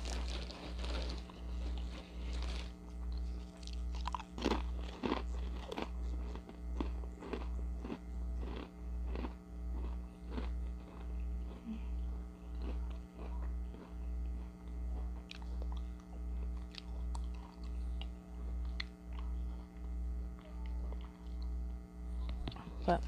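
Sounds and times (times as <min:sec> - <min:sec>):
crunching and chewing chips: 0:00.0 - 0:23.0
low pulsing hum: 0:00.0 - 0:23.0.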